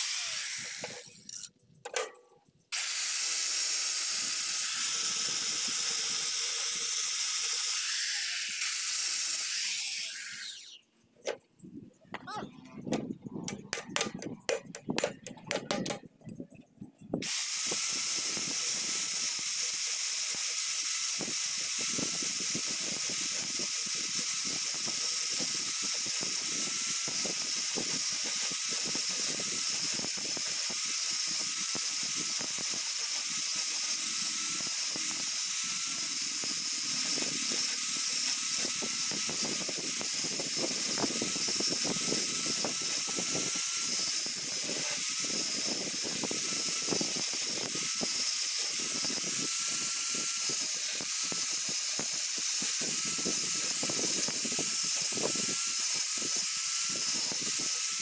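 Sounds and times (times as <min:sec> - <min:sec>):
angle grinder grinding steel: 0:00.0 - 0:58.0.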